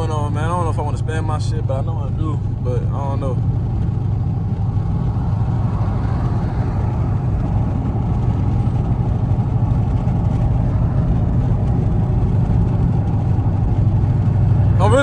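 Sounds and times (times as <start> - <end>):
car engine droning while cruising: 0.0 - 15.0.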